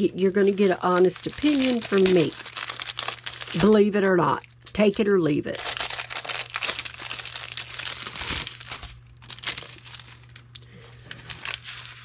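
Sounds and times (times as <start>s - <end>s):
plastic packaging crinkling: 0.0s - 4.2s, 5.5s - 12.0s.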